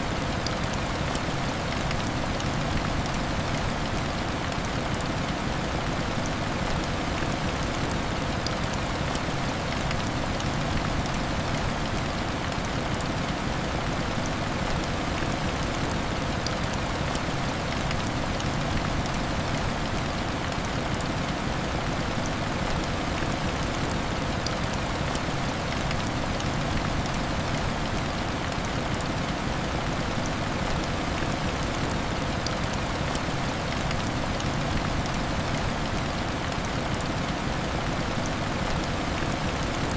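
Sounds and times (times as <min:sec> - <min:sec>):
heavy rain on window glass: 0:00.0 - 0:39.9.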